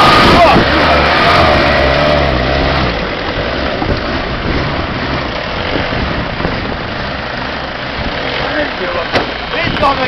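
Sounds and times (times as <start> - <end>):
off-road vehicle engine rumbling: 0.0 - 10.0.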